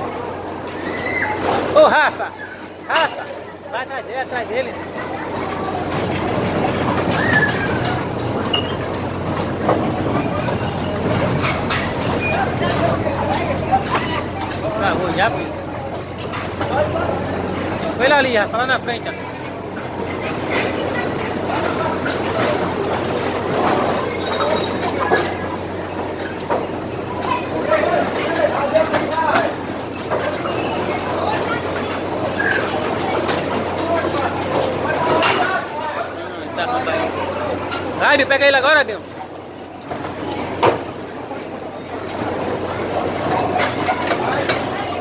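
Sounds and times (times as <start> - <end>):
bumper cars rumbling: 0.0 - 45.0.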